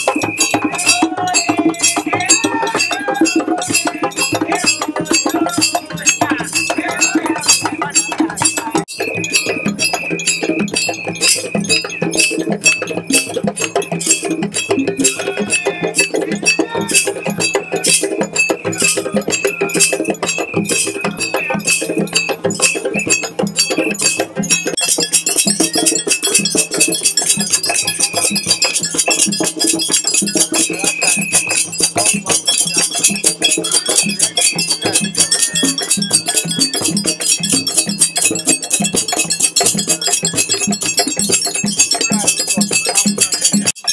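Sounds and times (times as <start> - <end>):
bright metallic percussion layer: 0.0 - 43.9
hand drums playing: 0.0 - 43.9
ringing metal bell: 0.0 - 43.9.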